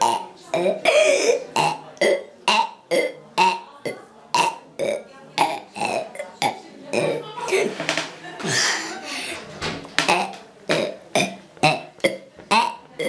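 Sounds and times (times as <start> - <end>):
girl burping: 0.0 - 7.7, 8.4 - 9.0, 10.0 - 13.0.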